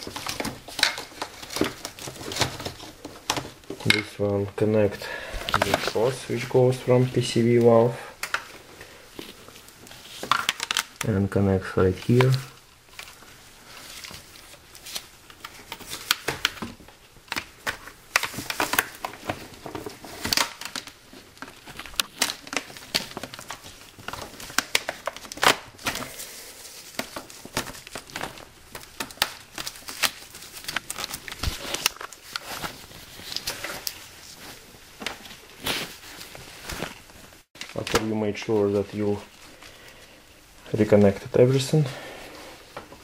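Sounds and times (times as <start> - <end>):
gloved hands rustling: 0.0 - 43.0.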